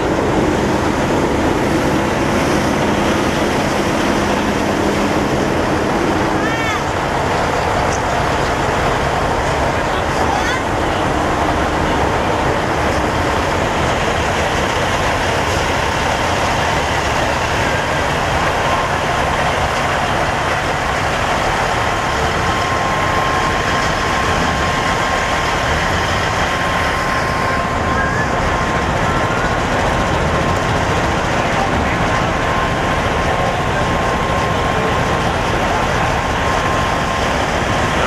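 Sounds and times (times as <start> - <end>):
diesel truck engines idling: 0.0 - 38.0.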